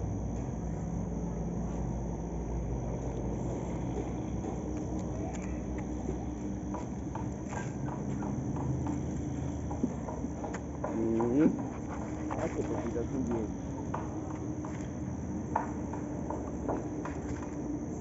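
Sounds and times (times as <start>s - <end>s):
engine-like hum: 0.0s - 18.0s
footsteps on pavement: 2.9s - 18.0s.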